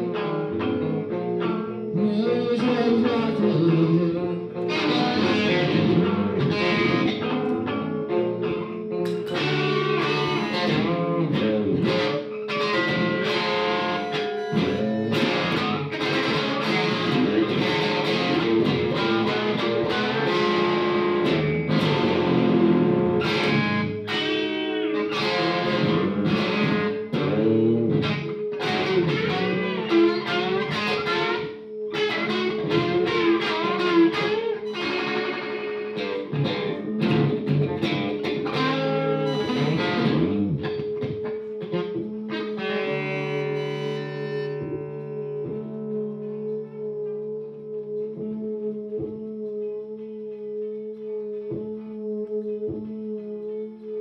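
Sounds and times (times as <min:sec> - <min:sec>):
electric guitar strummed hard: 0:00.0 - 0:47.0.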